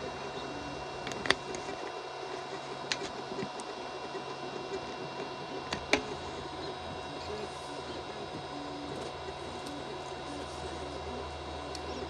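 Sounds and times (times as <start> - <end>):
printer machine hum: 0.0 - 12.0.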